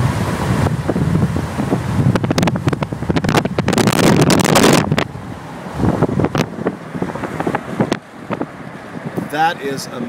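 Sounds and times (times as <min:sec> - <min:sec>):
wind buffeting microphone: 0:00.0 - 0:09.4
road and engine rumble: 0:00.0 - 0:10.0.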